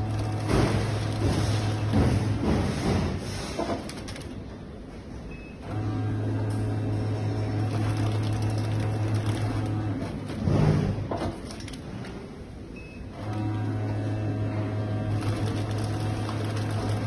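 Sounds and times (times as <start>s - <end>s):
packing machine electric hum: 0.0s - 17.0s.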